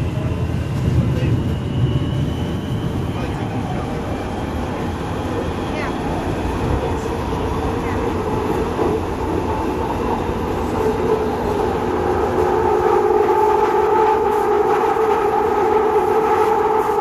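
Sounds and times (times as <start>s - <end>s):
steady train whine: 0.0s - 17.0s
train wheels rumbling on rail: 0.0s - 17.0s.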